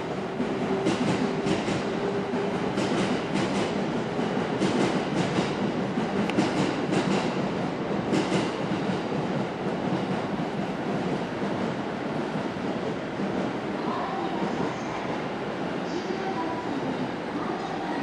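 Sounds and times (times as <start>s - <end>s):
train wheels rumbling: 0.0s - 15.1s.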